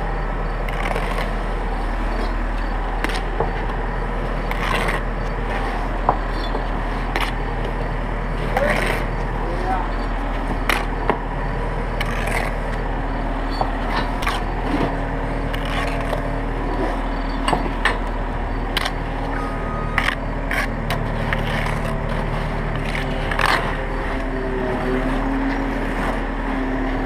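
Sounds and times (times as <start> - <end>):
engine drone: 0.0 - 27.0
trowel spreading mortar: 0.5 - 17.1, 18.6 - 25.4.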